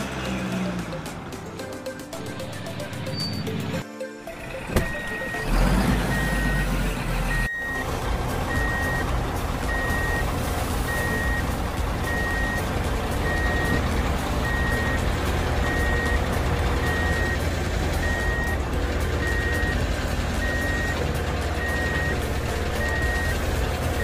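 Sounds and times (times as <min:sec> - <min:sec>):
low engine rumble: 0:00.0 - 0:24.0
truck reversing beeper: 0:02.1 - 0:24.0.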